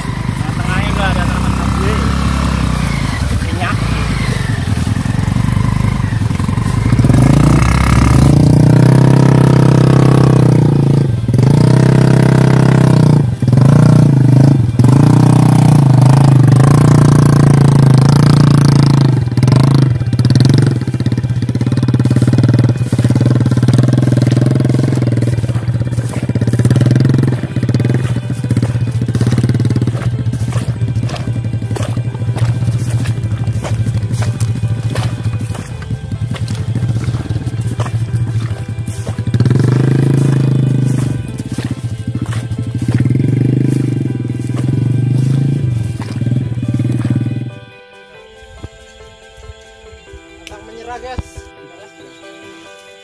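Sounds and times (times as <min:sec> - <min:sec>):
motorcycle engine revving: 0:00.0 - 0:47.8.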